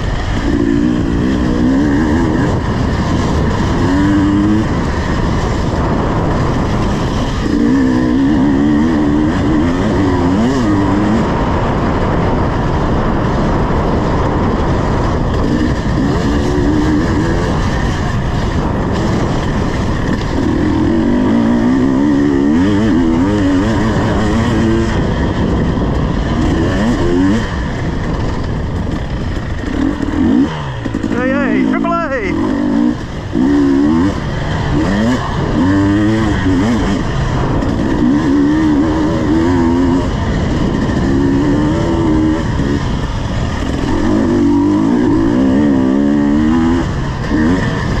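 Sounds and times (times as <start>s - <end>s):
motorcycle engine revving: 0.0s - 48.0s
riding noise: 0.0s - 48.0s.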